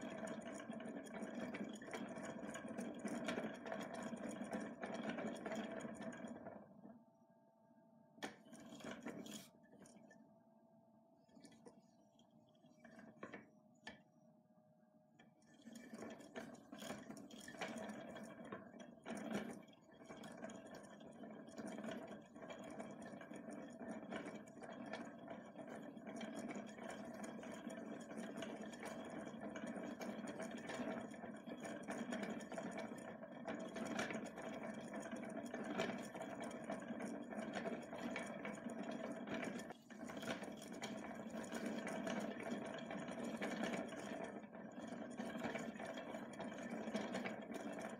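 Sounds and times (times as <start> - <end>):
yarn reel whirring and clicking: 0.0 - 6.9, 8.2 - 10.1, 12.8 - 14.0, 15.2 - 47.9.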